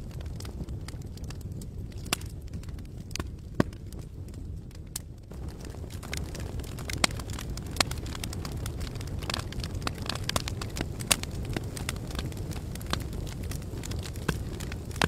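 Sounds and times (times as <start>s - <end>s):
burning wood popping: 0.0s - 15.0s
campfire crackling: 0.0s - 15.0s.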